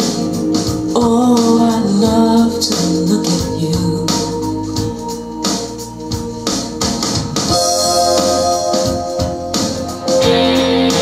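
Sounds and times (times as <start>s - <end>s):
song with keyboards and percussion: 0.0s - 11.0s.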